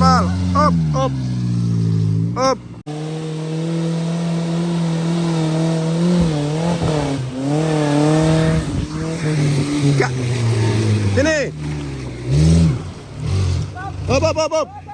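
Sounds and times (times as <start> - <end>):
engine revving: 0.0 - 14.9.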